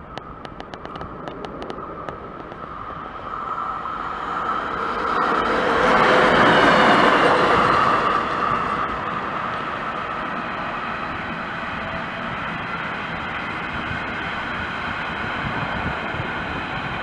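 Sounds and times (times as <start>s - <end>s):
rail vehicle engine passing: 0.0s - 17.0s.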